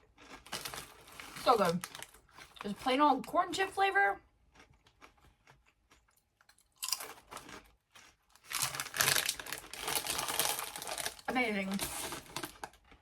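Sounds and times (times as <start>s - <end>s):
chewing crunchy chips: 0.0s - 13.0s.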